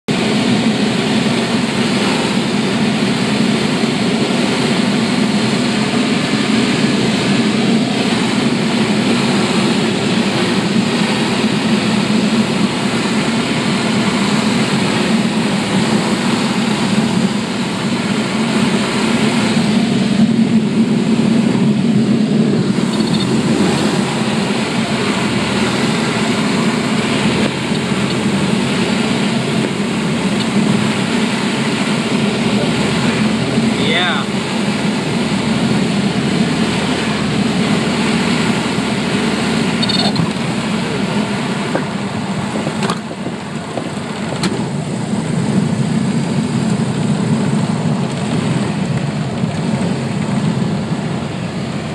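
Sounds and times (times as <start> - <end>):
aircraft engine and propeller drone: 0.0 - 51.9
rushing air: 0.1 - 51.9.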